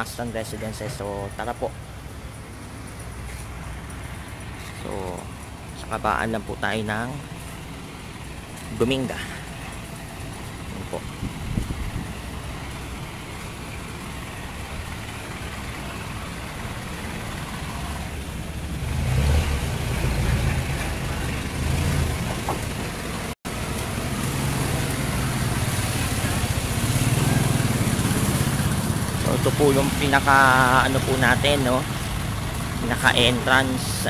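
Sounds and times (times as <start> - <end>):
street traffic: 0.0 - 34.0
vehicle engine rumbling: 0.0 - 34.0.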